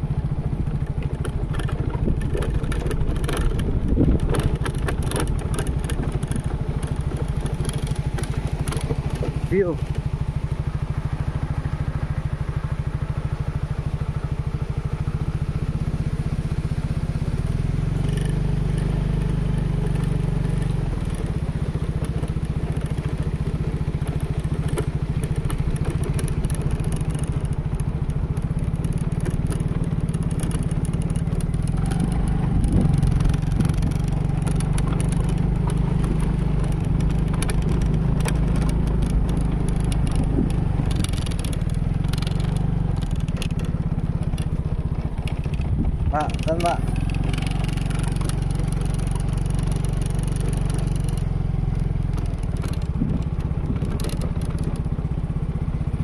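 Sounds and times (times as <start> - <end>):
scooter engine running: 0.0 - 56.0
light clatters: 0.6 - 15.7, 18.0 - 55.8.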